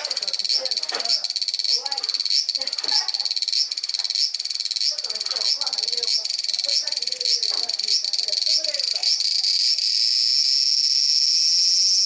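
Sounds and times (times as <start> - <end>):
cicada shrilling: 0.0 - 12.0.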